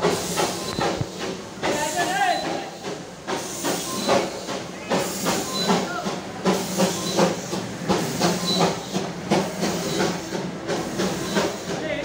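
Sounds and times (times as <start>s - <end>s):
escaping steam rushing: 0.0s - 12.0s
steam locomotive chuffing: 0.0s - 12.0s.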